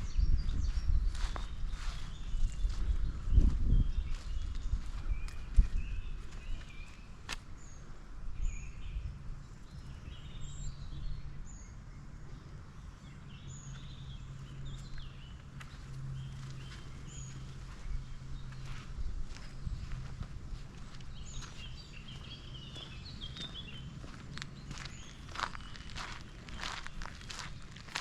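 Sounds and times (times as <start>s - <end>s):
low steady hum and rumble: 0.0s - 28.0s
small birds chirping: 0.0s - 28.0s.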